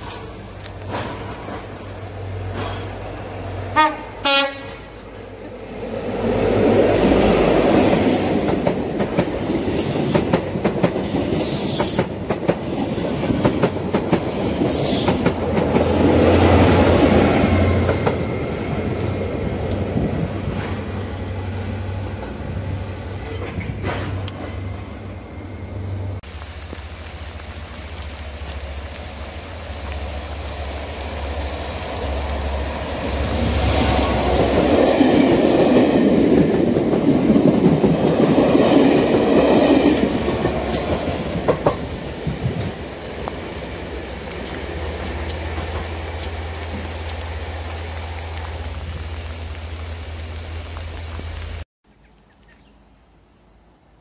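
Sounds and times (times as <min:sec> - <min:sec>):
train passing at speed: 0:00.0 - 0:51.6.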